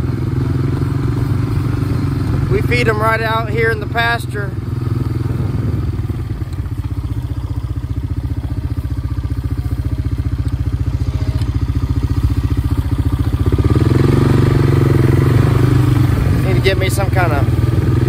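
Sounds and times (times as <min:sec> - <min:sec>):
four-wheeler engine running: 0:00.0 - 0:18.0.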